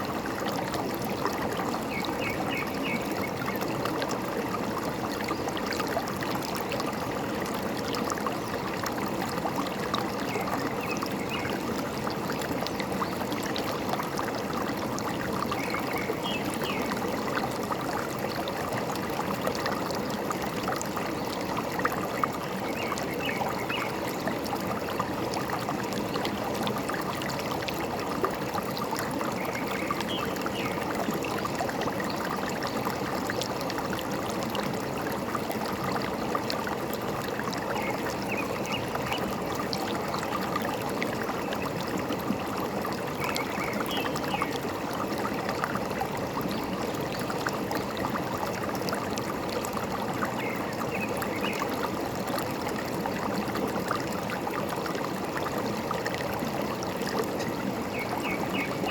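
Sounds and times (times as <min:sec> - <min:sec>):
stream babbling over rocks: 0:00.0 - 0:58.9.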